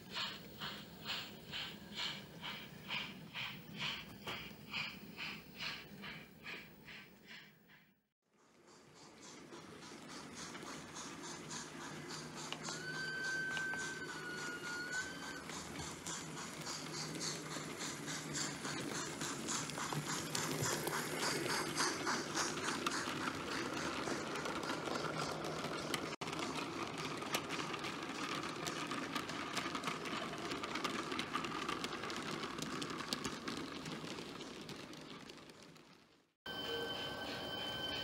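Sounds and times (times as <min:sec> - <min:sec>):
model train running: 0:00.0 - 0:38.0
wheels clicking on rails: 0:00.0 - 0:38.0.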